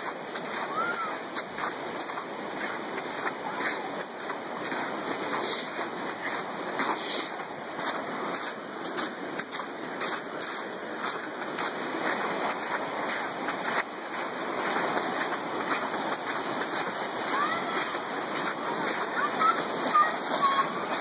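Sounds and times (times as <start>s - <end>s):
footsteps in slushy snow: 0.0s - 21.0s.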